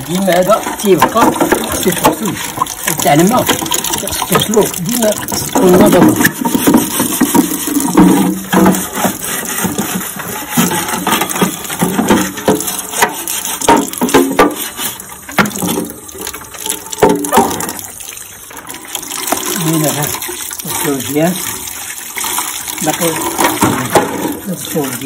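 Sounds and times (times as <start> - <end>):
brush scrubbing plastic tray: 0.0 - 25.0
water sloshing: 0.0 - 25.0.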